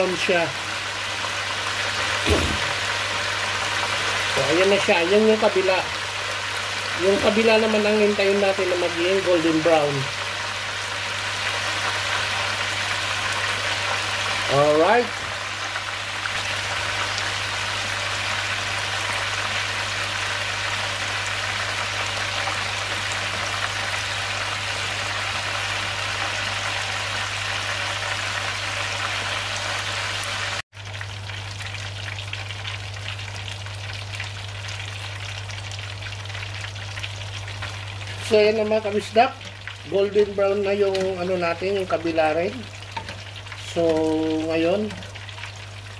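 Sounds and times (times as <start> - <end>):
chicken deep-frying in oil: 0.0 - 45.9.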